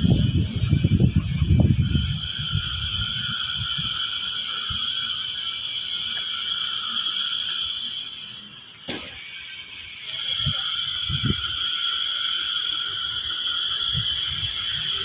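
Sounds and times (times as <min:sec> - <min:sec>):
high-pitched buzzing hiss: 0:00.0 - 0:15.0.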